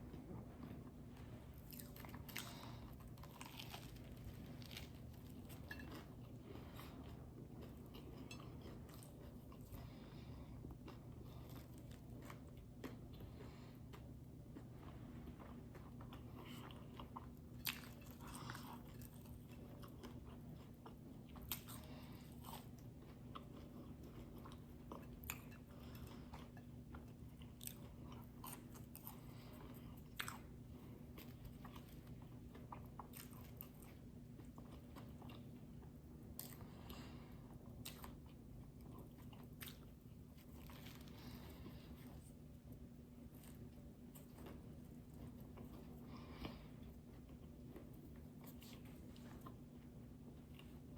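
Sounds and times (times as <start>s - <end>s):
close chewing: 0.0s - 50.9s
faint low hum: 0.0s - 50.9s.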